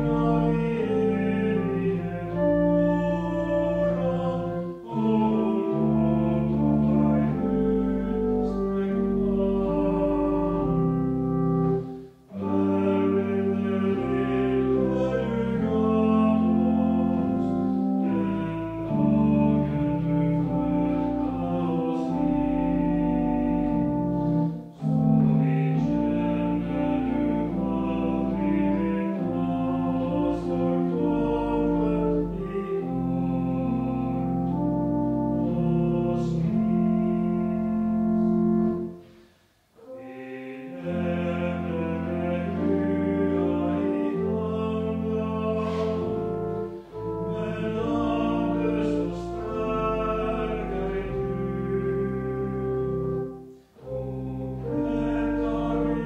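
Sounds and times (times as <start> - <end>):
pipe organ playing a hymn: 0.0 - 56.0.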